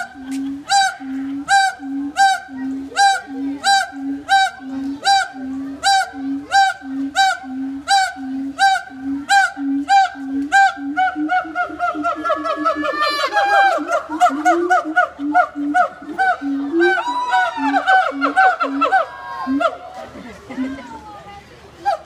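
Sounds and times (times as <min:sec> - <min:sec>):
gibbons whooping calls: 0:00.0 - 0:19.9.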